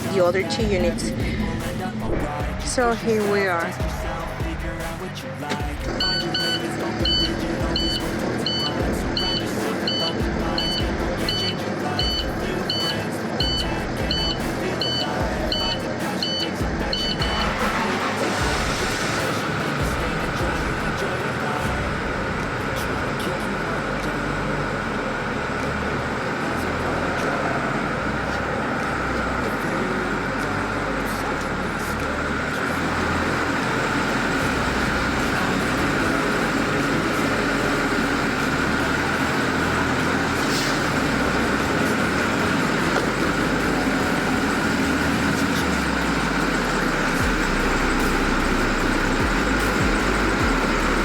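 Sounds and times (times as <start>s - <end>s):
diesel truck engine running: 0.0s - 51.0s.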